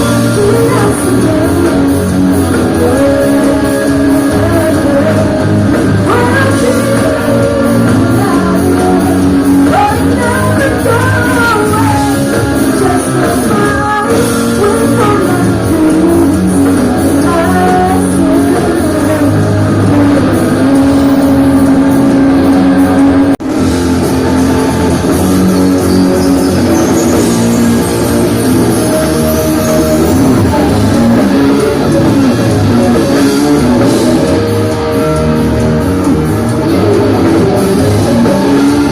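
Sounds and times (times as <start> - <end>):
electric guitar lead line: 0.0 - 38.9
live pop-rock band playing: 0.0 - 38.9.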